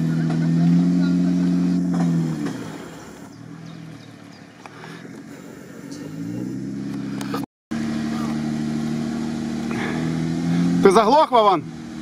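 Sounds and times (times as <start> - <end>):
off-road vehicle engine: 0.0 - 12.0.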